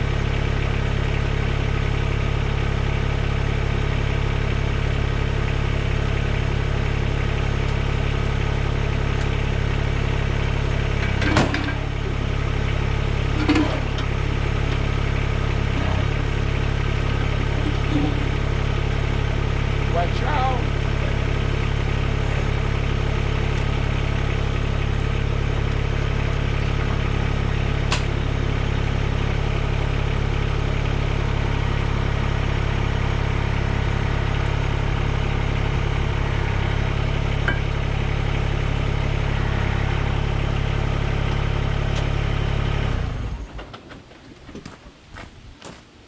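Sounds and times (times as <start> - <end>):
tractor diesel engine idling: 0.0 - 44.2.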